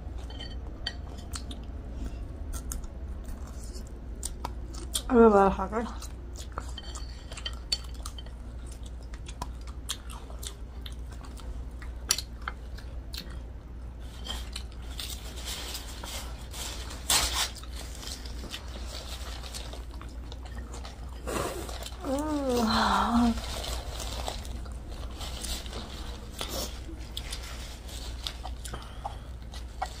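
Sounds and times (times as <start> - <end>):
crunchy chewing: 1.0 - 5.1, 6.0 - 22.6, 23.3 - 30.0.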